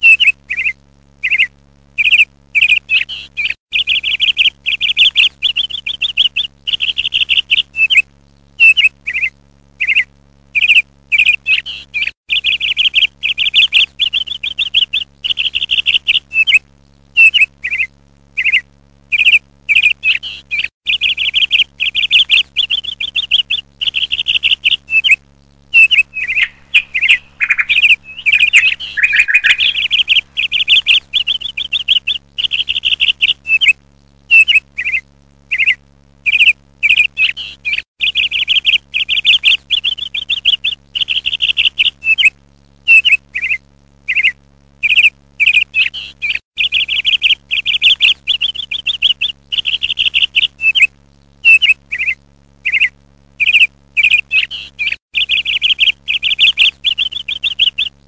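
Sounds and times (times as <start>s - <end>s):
small birds chirping: 0.0s - 8.0s, 8.6s - 16.6s, 17.2s - 42.3s, 42.9s - 58.0s.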